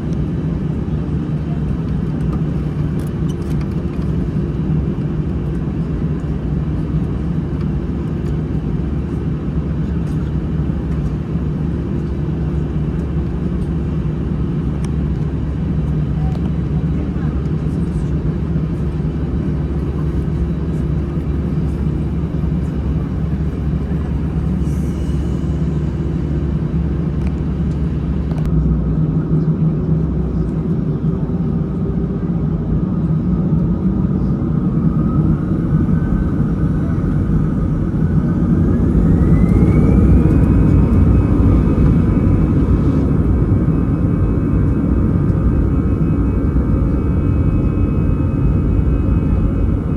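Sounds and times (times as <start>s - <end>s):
aircraft engine rumble: 0.0s - 49.9s
jet engine whine: 0.0s - 49.9s.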